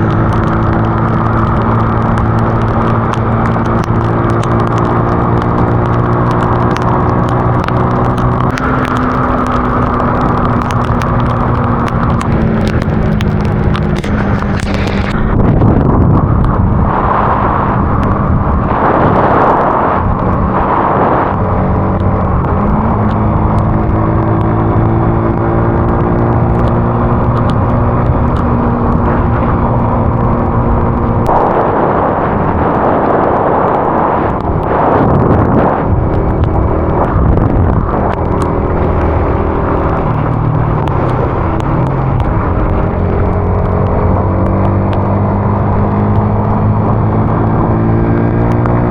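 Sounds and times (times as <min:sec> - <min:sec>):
road and wind noise: 0:00.0 - 0:48.9
vehicle engine cruising: 0:00.0 - 0:48.9.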